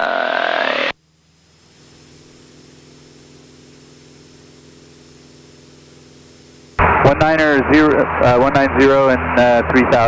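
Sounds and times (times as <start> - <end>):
faint propeller plane engine drone: 0.0 - 10.0.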